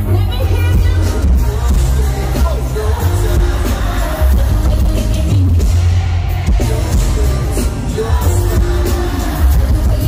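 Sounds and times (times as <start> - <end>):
loud live concert music: 0.0 - 10.0.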